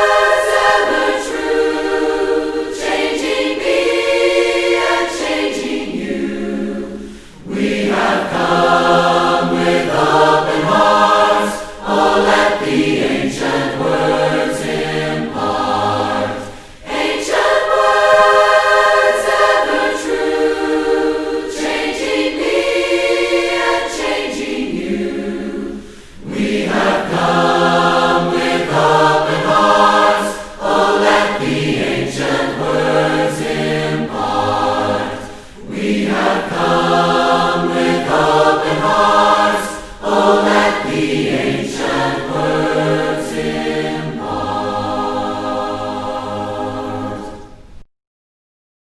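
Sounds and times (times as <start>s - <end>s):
mixed choir singing a cappella: 0.0s - 47.8s.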